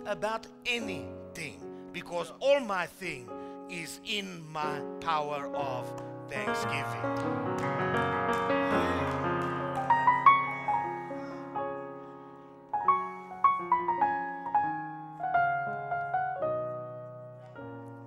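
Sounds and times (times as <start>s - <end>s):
keyboard piano chords and notes: 0.0s - 18.0s.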